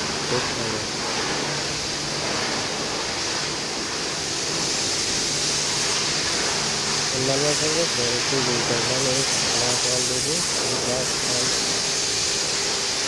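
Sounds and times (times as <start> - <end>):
pressure washer spraying: 0.0 - 13.0.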